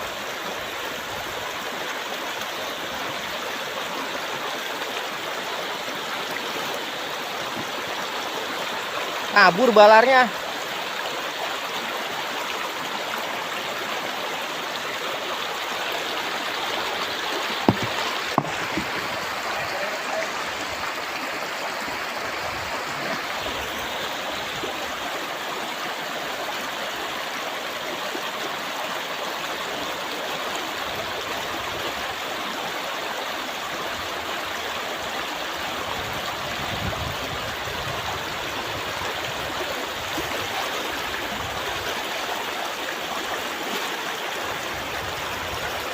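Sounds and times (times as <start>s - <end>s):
river flowing: 0.0s - 45.9s.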